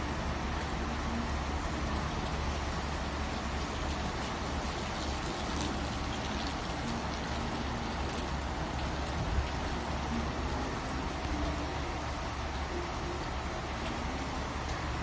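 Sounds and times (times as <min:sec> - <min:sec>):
rain falling on street: 0:00.0 - 0:15.0.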